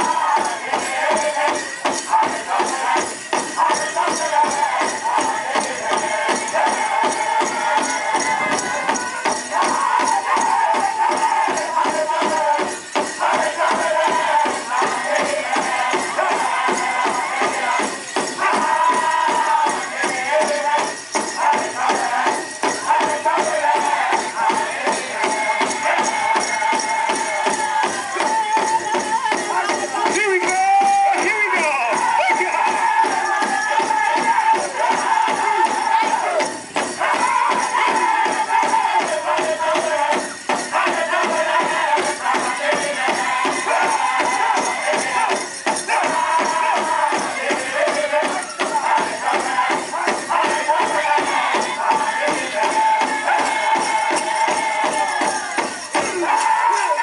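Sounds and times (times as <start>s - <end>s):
group singing in high voices: 0.0s - 57.0s.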